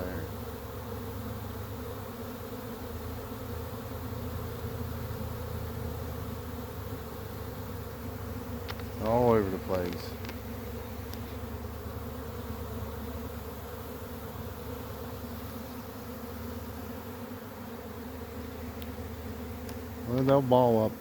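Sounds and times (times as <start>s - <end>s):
bee swarm humming: 0.0s - 21.0s.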